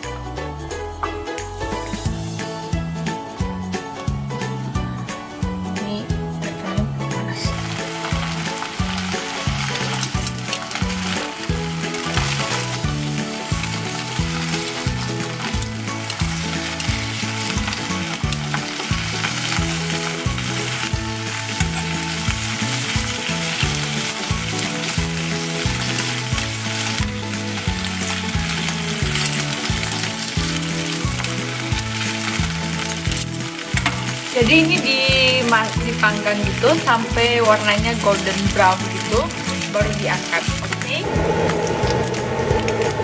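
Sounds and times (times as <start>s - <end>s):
bacon sizzling in frying pan: 1.8s - 43.0s.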